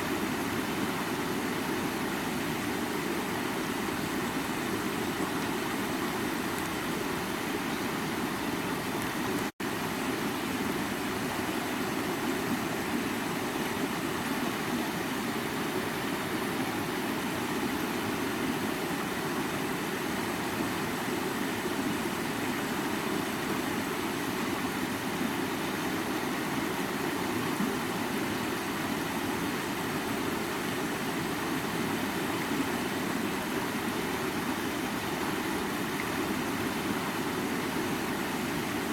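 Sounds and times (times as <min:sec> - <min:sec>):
water rushing in a brook: 0:00.0 - 0:38.9.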